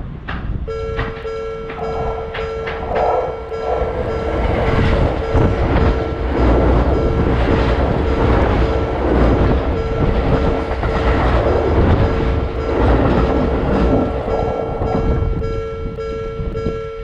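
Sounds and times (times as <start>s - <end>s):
train wheels clattering over rail joints: 0.0s - 15.7s
crossing warning bell ringing: 0.1s - 17.0s.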